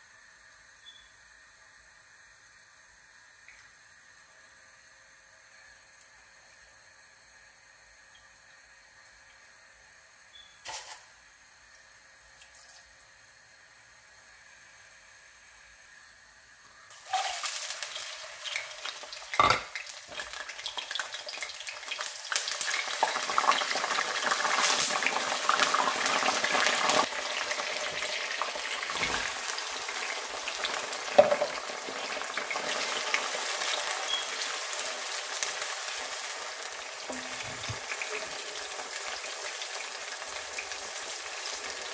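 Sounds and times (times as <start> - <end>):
oil sizzling in a pan: 0.0 - 41.9.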